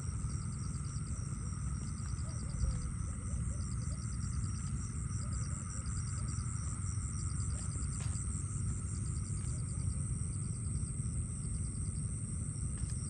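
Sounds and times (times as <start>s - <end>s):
insect chirping: 0.0s - 13.0s
insects trilling: 0.0s - 13.0s.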